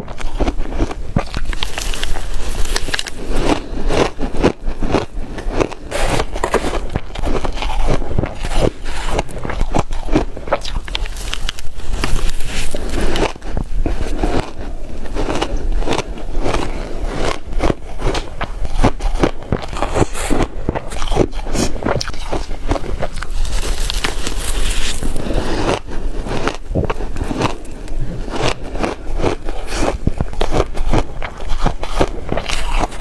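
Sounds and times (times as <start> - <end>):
ice being chewed: 0.0 - 33.0
gritty scraping: 0.2 - 33.0.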